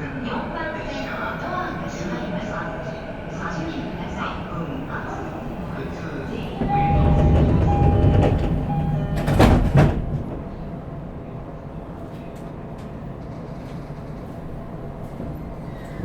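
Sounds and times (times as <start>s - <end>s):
train wheels rumbling on rail: 0.3s - 16.0s.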